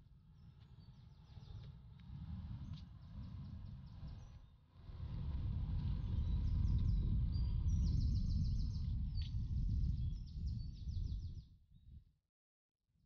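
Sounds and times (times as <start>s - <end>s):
wind rumbling on microphone: 0.2s - 12.0s.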